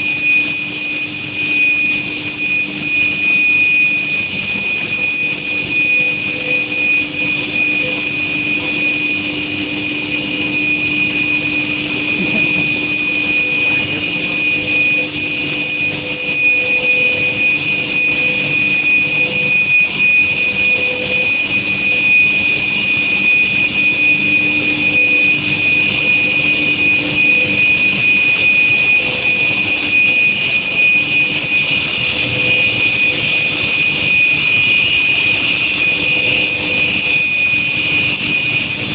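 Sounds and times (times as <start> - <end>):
high-pitched machine whine: 0.0 - 38.9
noisy machine hum: 0.0 - 38.9.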